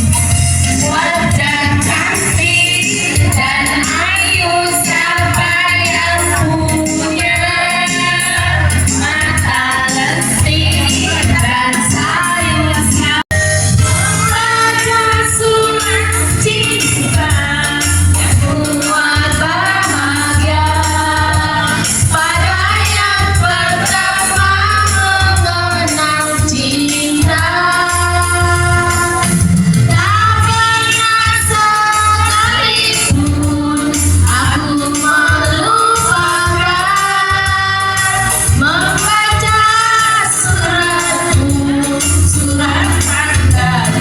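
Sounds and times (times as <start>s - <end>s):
bass line: 0.0s - 44.0s
person singing: 0.6s - 44.0s.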